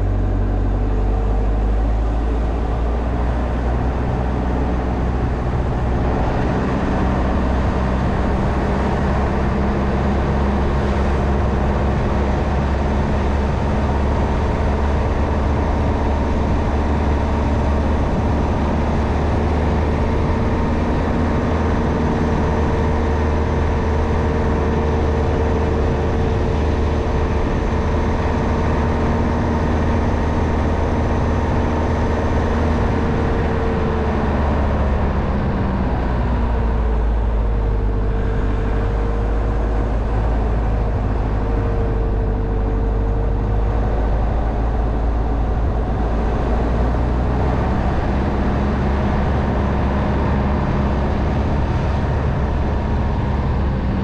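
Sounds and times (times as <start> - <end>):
car engine under load: 0.0 - 54.0
tyre and road rumble: 0.0 - 54.0.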